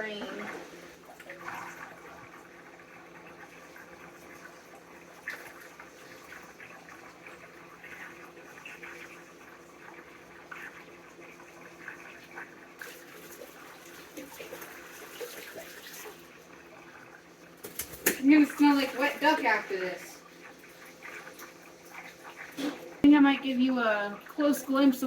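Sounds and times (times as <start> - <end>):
water draining with gurgles: 0.0 - 23.0.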